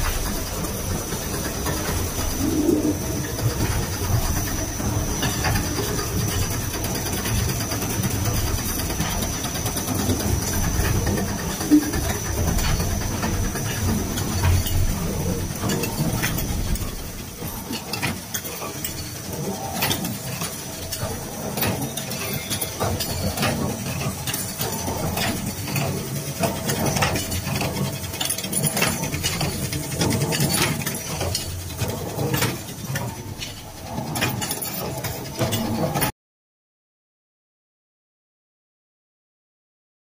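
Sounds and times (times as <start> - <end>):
machine clicks and knocks: 0.0 - 36.1
machine hum: 0.0 - 36.1.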